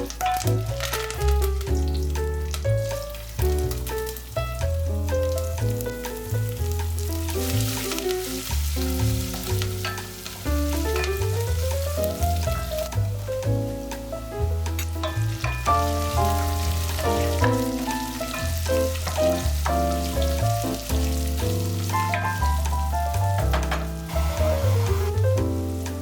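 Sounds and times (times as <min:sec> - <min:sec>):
food sizzling in a pan: 0:00.0 - 0:26.0
melodic background music: 0:00.0 - 0:26.0.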